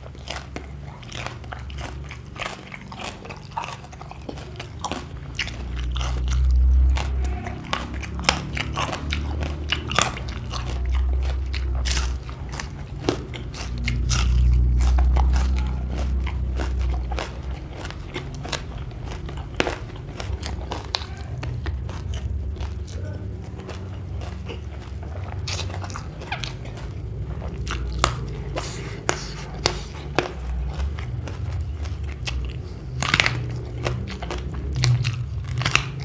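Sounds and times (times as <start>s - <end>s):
chewing crunchy food: 0.0s - 36.0s.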